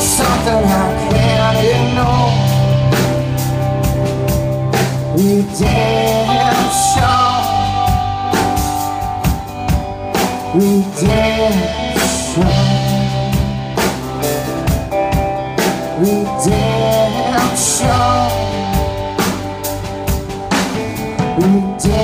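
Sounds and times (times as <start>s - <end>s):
drum kit with cymbals: 0.0s - 22.0s
electric bass: 0.0s - 22.0s
electric guitar: 0.0s - 22.0s.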